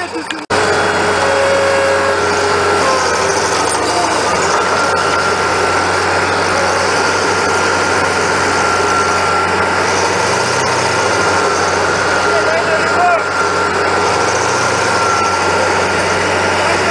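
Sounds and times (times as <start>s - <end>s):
loader engine running: 0.0s - 16.9s.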